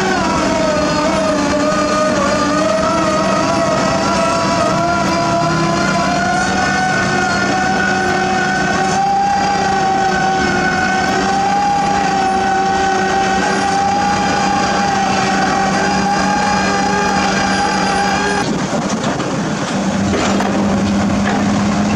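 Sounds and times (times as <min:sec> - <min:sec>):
diesel engine drone: 0:00.0 - 0:21.9
high steady whine: 0:00.0 - 0:21.9.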